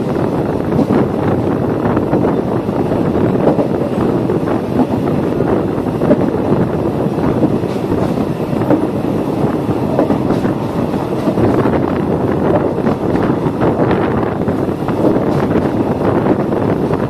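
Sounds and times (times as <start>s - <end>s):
train wheels rumbling on rail: 0.0s - 17.0s
wind buffeting microphone: 0.0s - 17.0s.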